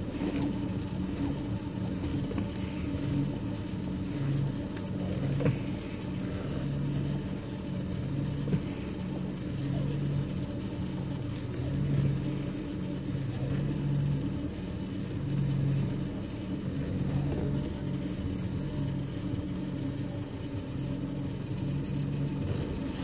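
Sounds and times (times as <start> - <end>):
car engine running: 0.0 - 23.0
power steering humming: 0.0 - 23.0.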